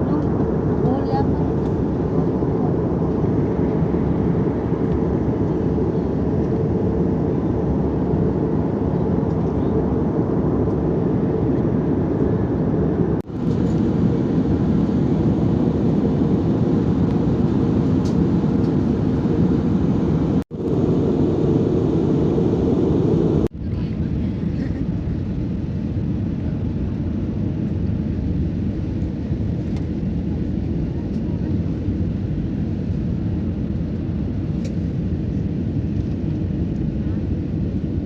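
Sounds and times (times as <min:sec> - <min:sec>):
airliner cabin engine noise: 0:00.0 - 0:38.0.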